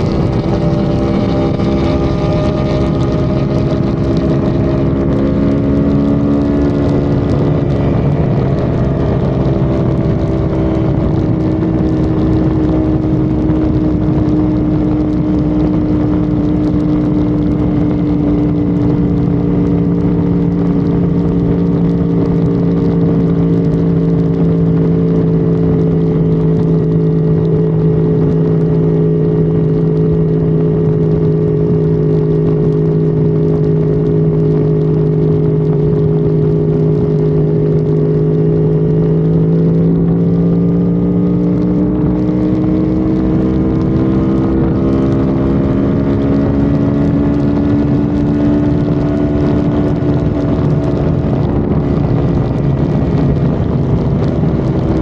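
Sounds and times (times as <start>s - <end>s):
car engine drone: 0.0s - 55.0s
road and wind noise: 0.0s - 55.0s.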